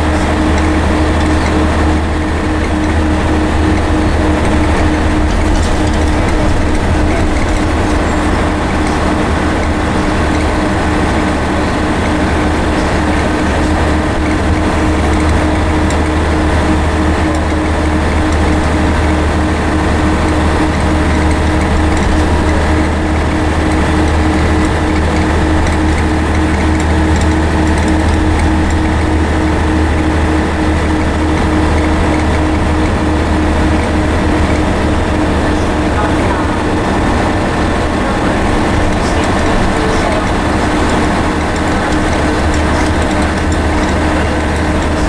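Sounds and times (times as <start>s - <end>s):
bus diesel engine droning: 0.0s - 45.0s
road noise: 0.0s - 45.0s.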